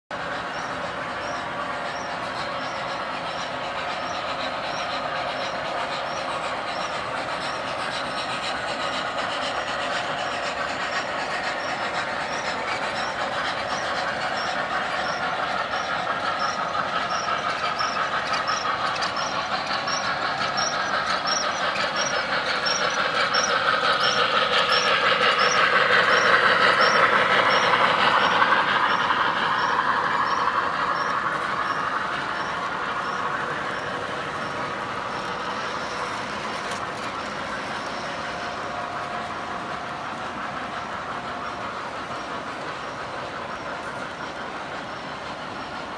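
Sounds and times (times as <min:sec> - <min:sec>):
model train running on track: 0:00.1 - 0:45.9.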